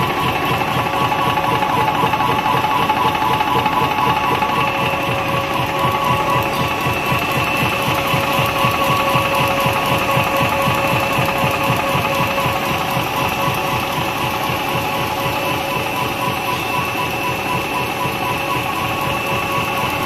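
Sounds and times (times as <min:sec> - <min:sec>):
die-cutting machine whirring: 0:00.0 - 0:20.0
high machine whines: 0:00.0 - 0:20.0.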